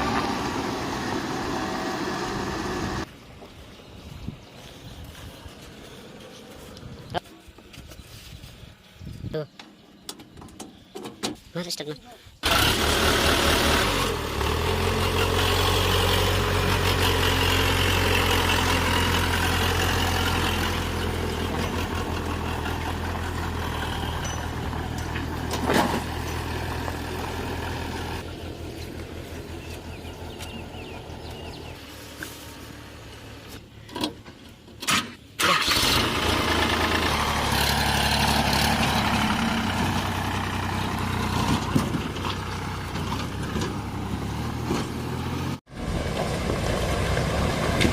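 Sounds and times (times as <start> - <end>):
heavy diesel engines humming: 0.0 - 3.1, 12.4 - 47.9.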